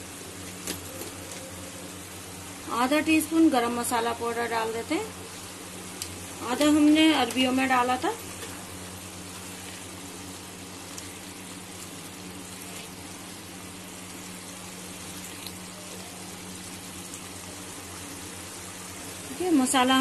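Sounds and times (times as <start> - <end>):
gravy sizzling and bubbling in oil: 0.0 - 20.0
steady low hum: 0.0 - 20.0.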